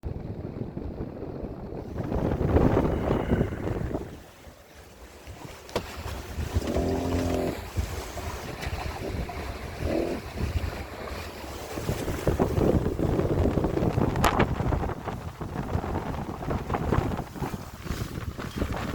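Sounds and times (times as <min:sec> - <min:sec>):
wind buffeting microphone: 0:00.0 - 0:18.9
water rushing past hull: 0:00.1 - 0:18.9.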